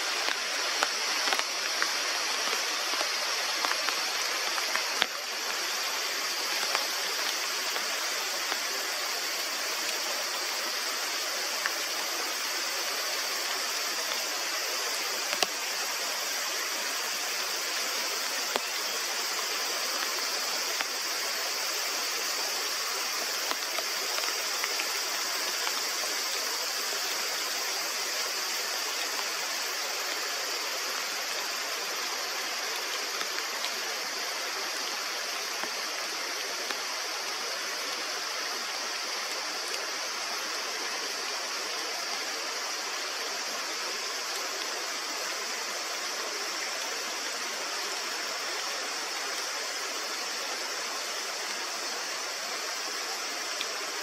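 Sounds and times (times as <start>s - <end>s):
faint ticks of raindrops: 0.0s - 54.0s
rain hissing: 0.0s - 54.0s.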